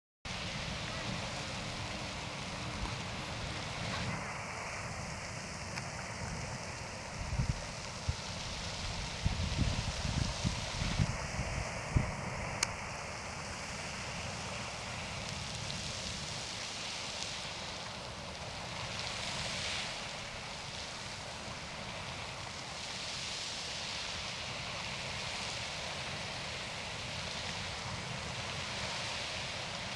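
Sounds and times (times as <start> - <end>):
geyser water and steam hissing: 0.3 - 29.9.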